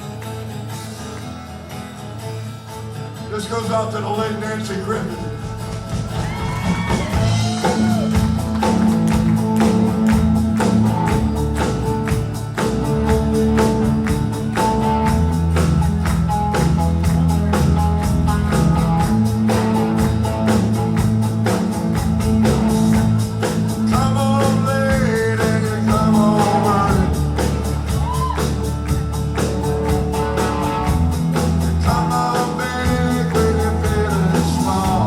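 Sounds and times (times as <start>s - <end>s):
live country-folk band playing: 0.0s - 35.0s.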